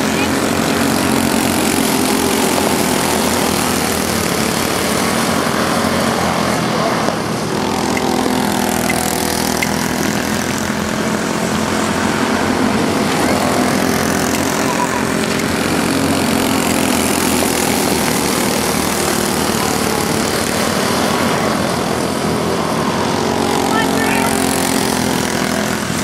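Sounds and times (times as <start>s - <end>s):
go-kart engines droning: 0.0s - 26.0s.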